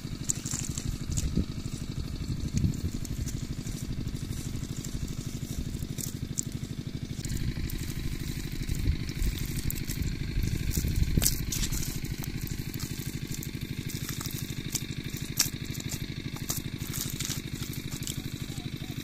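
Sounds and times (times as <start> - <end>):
hands squelching through wet mud: 0.0 - 19.0
small engine running: 0.0 - 19.0
sharp mud slaps: 0.2 - 19.0.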